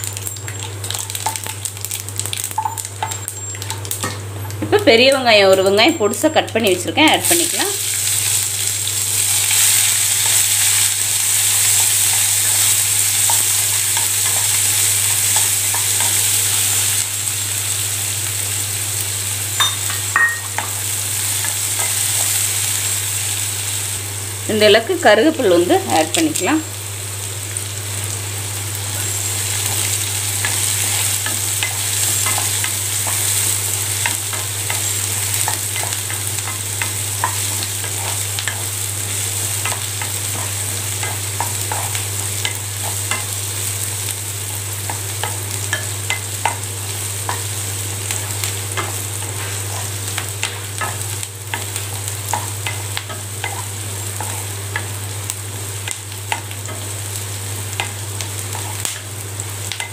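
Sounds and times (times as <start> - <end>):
onions sizzling in hot oil: 0.0 - 59.9.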